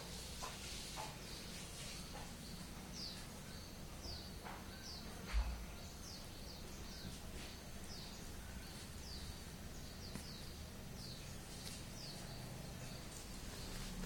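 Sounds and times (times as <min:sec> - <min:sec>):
bird chirping: 0:00.1 - 0:14.0.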